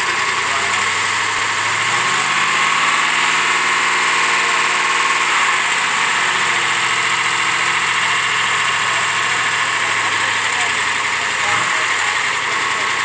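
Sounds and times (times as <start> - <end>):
vee eight engine running: 0.0 - 13.0.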